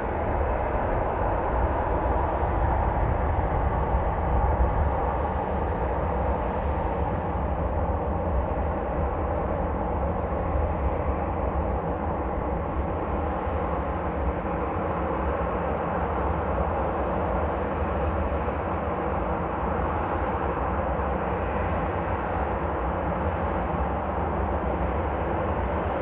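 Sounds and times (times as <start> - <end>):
jet engines roaring: 0.0 - 26.0
wind buffeting microphone: 0.0 - 26.0.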